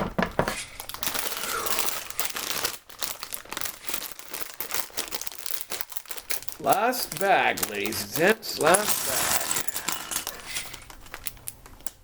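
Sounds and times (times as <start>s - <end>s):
plastic bag crinkling and tearing: 0.4s - 12.0s.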